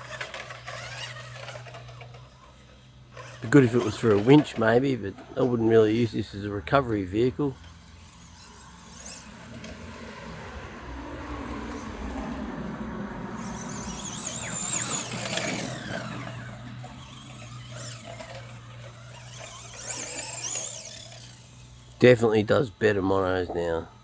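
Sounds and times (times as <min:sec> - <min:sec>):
electric motor whining: 0:00.0 - 0:24.0
toy truck tyres and chassis rattling: 0:00.0 - 0:24.0.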